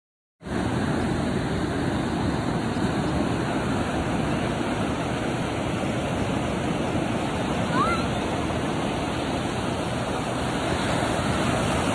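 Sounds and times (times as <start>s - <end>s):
ocean surf washing onto beach: 0.4s - 11.9s.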